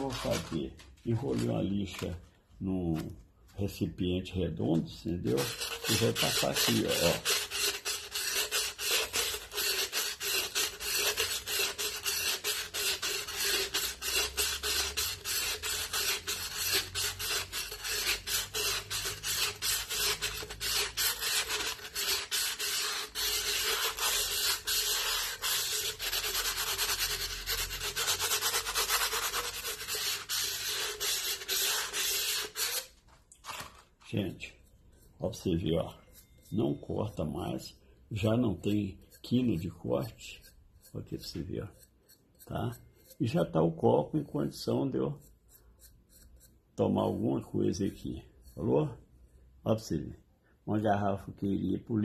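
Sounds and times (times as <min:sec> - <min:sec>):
sandpaper rasping on glass: 0:00.0 - 0:00.6, 0:05.2 - 0:33.0, 0:34.4 - 0:49.0.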